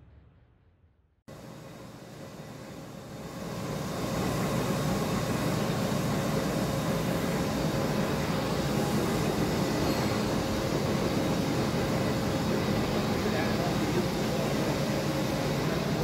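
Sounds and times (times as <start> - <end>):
lathe humming: 1.4 - 16.0.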